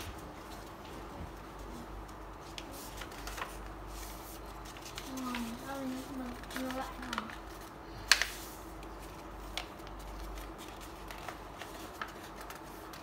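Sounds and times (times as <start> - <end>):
paper crackling and rustling: 0.0 - 13.0.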